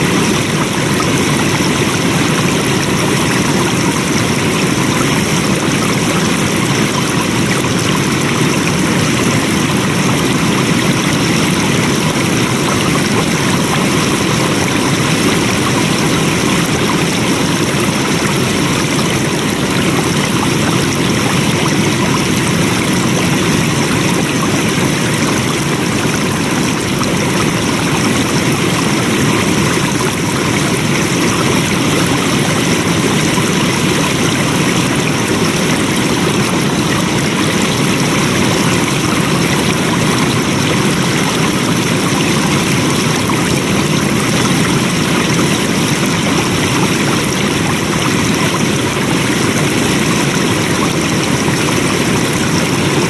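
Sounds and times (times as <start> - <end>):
water flowing: 0.0 - 53.0.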